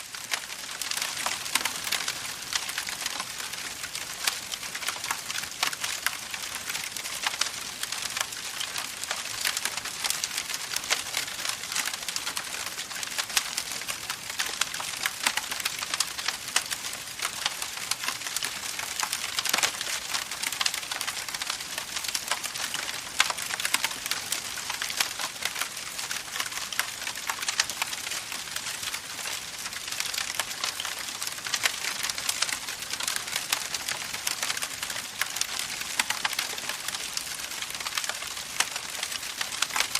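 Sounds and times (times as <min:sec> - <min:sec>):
campfire crackling: 0:00.1 - 0:39.9.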